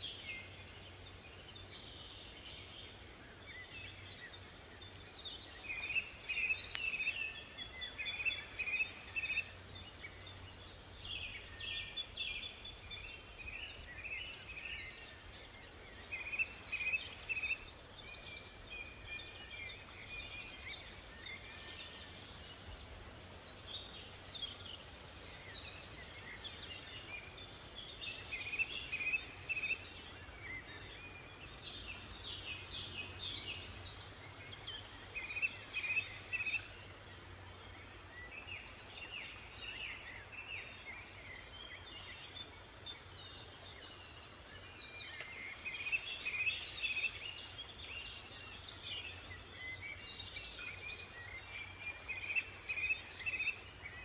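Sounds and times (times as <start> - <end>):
songbirds chirping: 0.0 - 54.0
steady high hiss: 0.0 - 54.0.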